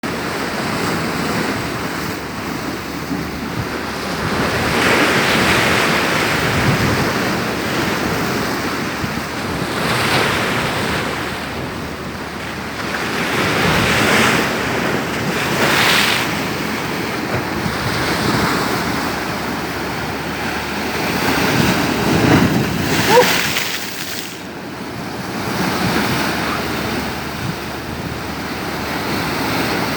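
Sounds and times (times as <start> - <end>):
sea waves crashing: 0.0 - 29.9
wind buffeting microphone: 0.0 - 29.9.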